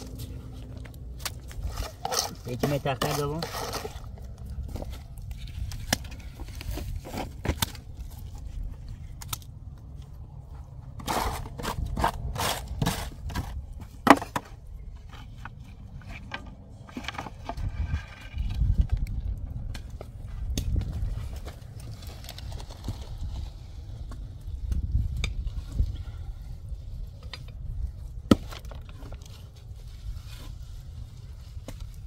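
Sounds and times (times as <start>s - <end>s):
steady low rumble: 0.0s - 2.6s, 3.4s - 32.0s.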